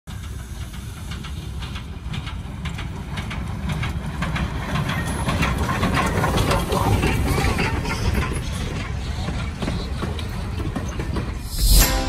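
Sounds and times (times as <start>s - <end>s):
train wheels clicking over rail joints: 0.1s - 11.6s
train rumbling: 0.1s - 12.0s.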